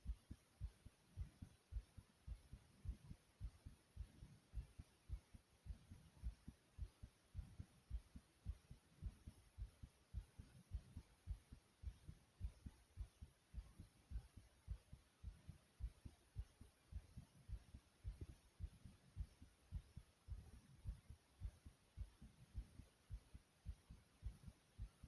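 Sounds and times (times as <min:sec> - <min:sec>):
heart beating fast: 0:00.0 - 0:25.0.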